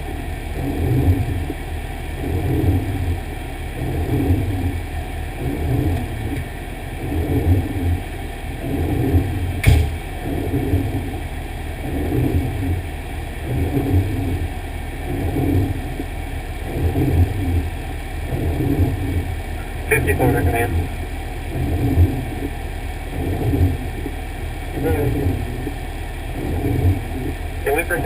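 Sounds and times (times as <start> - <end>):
fire engine rumbling: 0.0 - 28.0.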